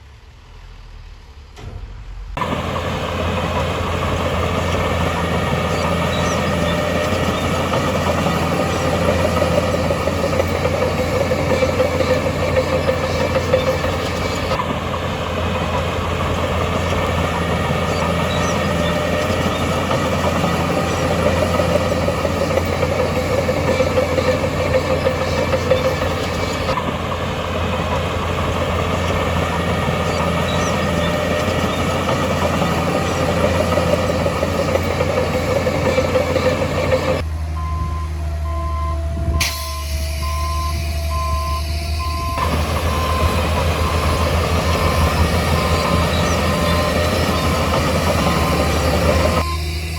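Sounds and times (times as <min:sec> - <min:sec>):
heavy diesel engine humming: 0:02.1 - 0:49.9.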